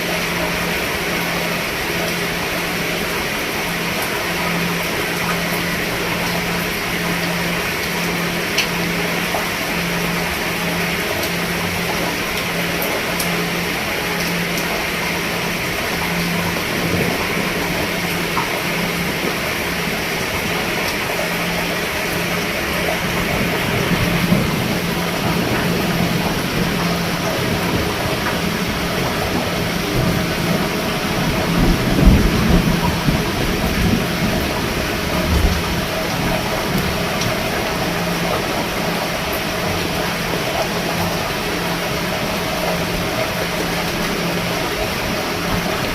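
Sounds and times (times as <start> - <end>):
pulsing low hum: 0.0 - 45.9
rain on a roof: 0.0 - 45.9.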